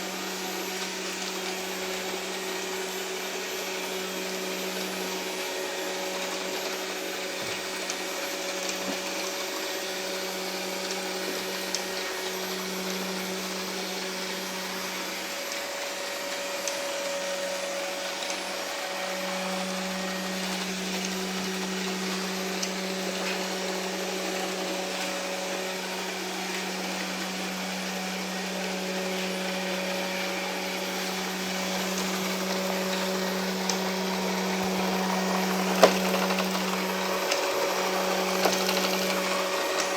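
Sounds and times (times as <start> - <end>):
robot vacuum motor whirring: 0.0 - 39.9.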